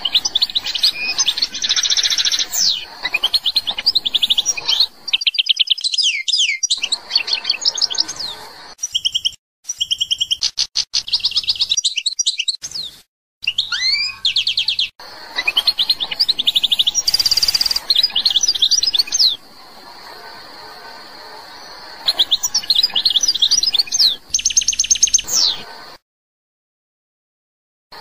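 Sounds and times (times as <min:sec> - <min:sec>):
goldfinch singing: 0:00.0 - 0:12.6, 0:13.4 - 0:19.4, 0:21.4 - 0:25.6.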